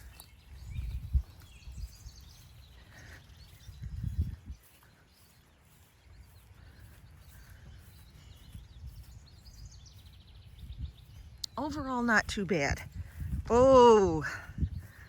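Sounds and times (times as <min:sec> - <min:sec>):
birdsong chirps and trill: 0:00.0 - 0:15.0.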